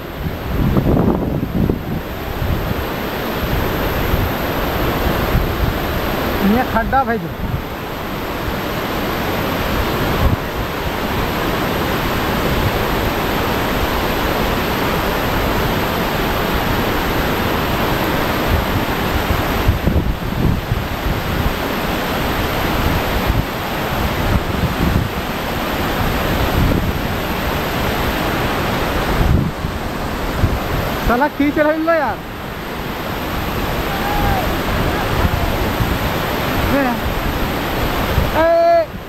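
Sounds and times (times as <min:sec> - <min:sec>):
wind thumping on microphone: 0:00.0 - 0:31.2, 0:32.0 - 0:39.0
water rushing down spillway: 0:00.1 - 0:39.0.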